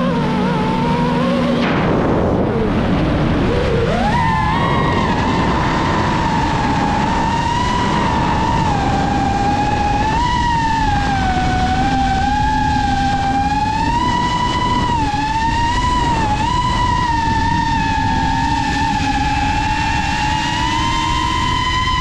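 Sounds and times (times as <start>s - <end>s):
quadcopter motors whining: 0.0s - 22.0s
steady rushing noise: 0.0s - 22.0s.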